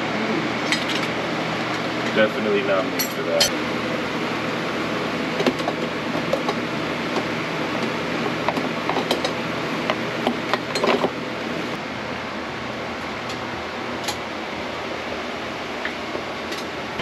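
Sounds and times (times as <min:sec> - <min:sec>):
steady whirring fan: 0:00.0 - 0:17.0.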